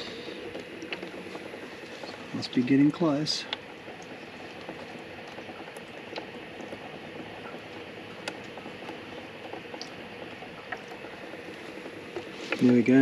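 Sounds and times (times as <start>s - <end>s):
water dripping into pots: 0.0s - 13.0s
drip ticks: 0.1s - 1.7s, 2.5s - 12.8s.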